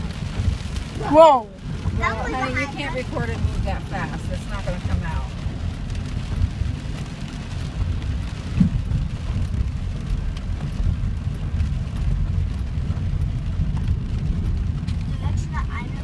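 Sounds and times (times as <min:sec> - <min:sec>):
car rumble from inside: 0:00.0 - 0:16.0
rain ticking on car roof: 0:00.0 - 0:16.0.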